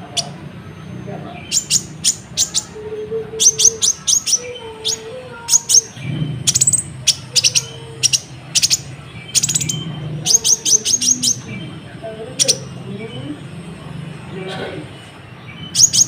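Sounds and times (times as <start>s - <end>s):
bird chirping: 0.0s - 14.3s, 14.9s - 16.0s.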